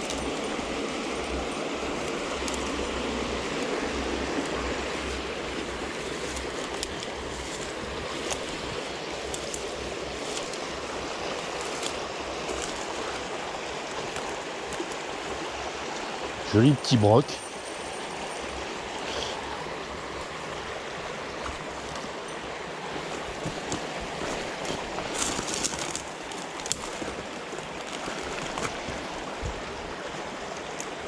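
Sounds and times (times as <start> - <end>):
small river flowing: 0.0 - 31.0.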